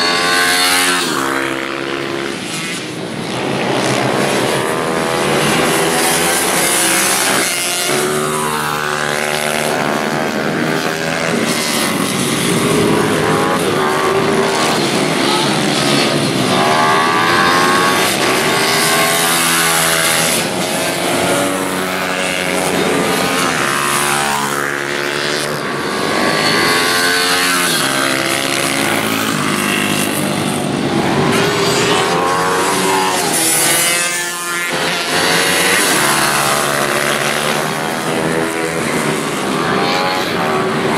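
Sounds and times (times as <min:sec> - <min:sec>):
minibike engines revving: 0:00.0 - 0:40.9.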